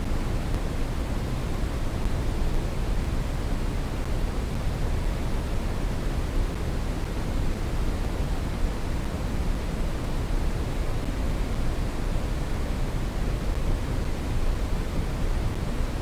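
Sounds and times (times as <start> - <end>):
brown noise rumbling hiss: 0.0 - 16.0.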